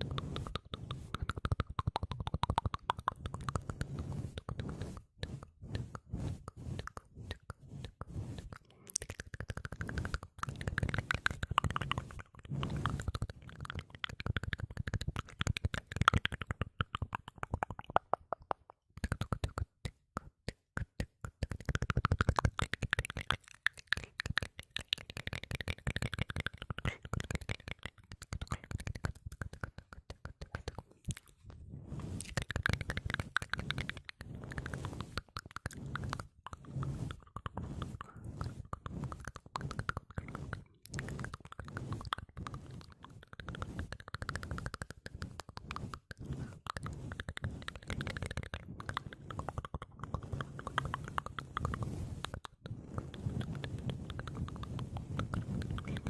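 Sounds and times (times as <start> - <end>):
wet tongue and lip clicks: 0.0 - 56.0.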